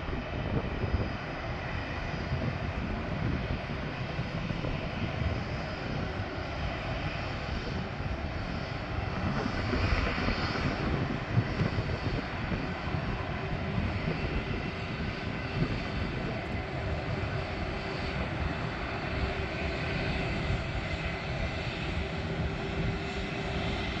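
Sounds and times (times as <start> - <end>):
distant jet engine rumble: 0.0 - 24.0.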